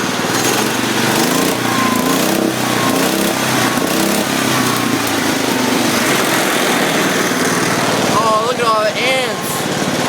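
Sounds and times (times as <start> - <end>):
garden tractor engine revving: 0.0 - 10.0.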